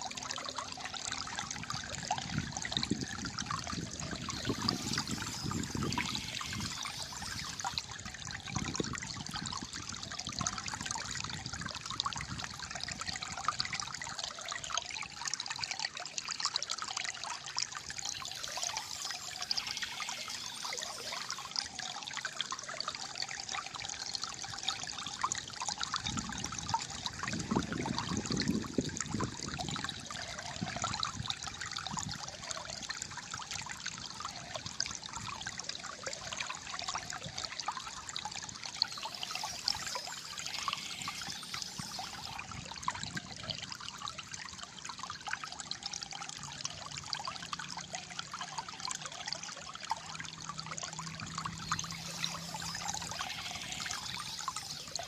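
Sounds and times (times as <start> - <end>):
water gurgling and trickling: 0.0 - 55.0.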